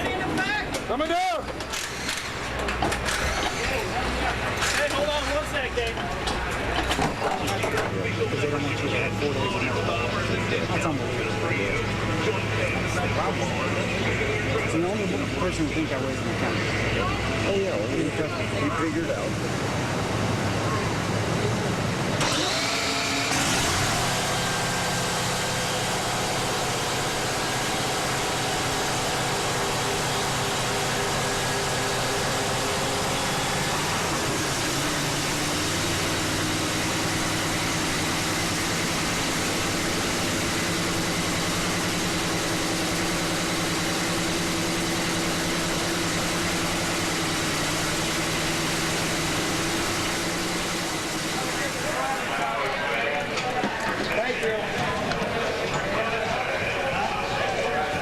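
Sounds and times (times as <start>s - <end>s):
drag racing engine idling: 0.0s - 54.6s.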